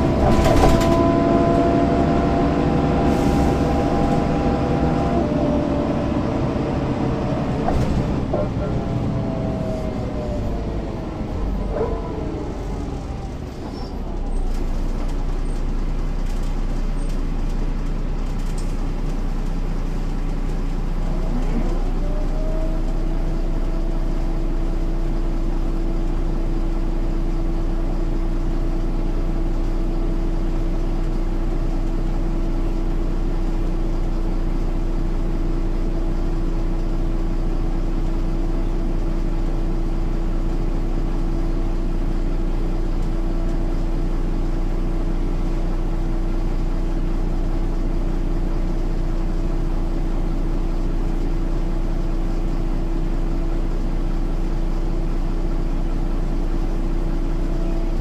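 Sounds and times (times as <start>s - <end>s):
diesel bus engine running: 0.0s - 58.0s.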